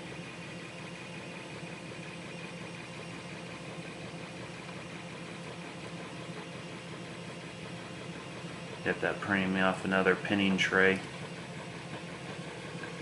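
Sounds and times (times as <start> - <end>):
three d printer humming: 0.0 - 13.0.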